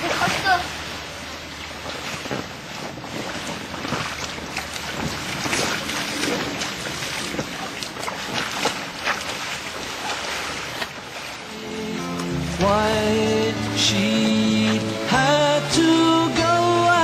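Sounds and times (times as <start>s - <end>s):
steady wash of water noise: 0.0s - 17.0s
swimmers splashing in pool water: 0.0s - 17.0s.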